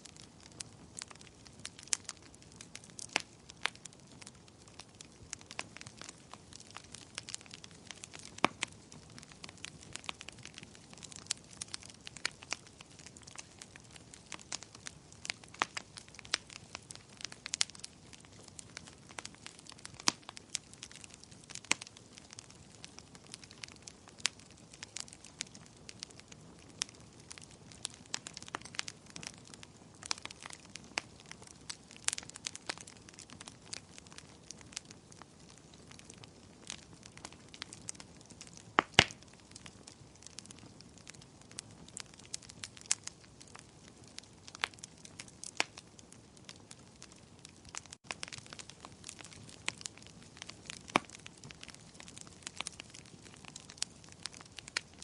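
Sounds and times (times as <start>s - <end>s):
soft steady hiss: 0.0s - 47.4s
fireplace fire crackling: 0.0s - 55.0s.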